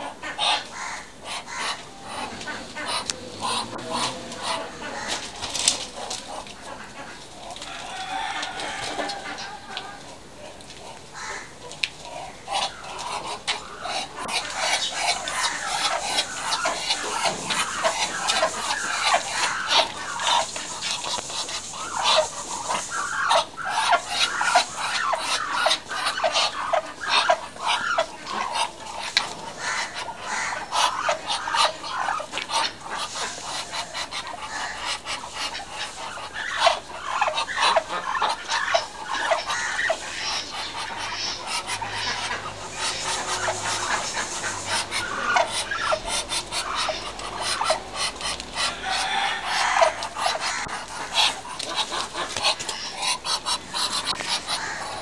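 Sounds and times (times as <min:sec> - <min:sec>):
ducks making breathy calls: 0:00.0 - 0:07.5, 0:10.4 - 0:55.0.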